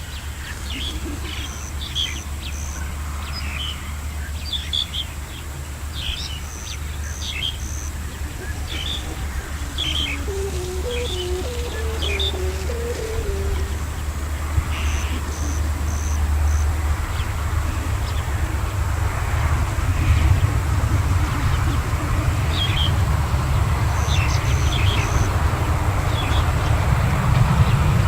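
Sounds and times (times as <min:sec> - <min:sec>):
birds chirping: 0:00.0 - 0:26.8
wind buffeting microphone: 0:05.0 - 0:28.0.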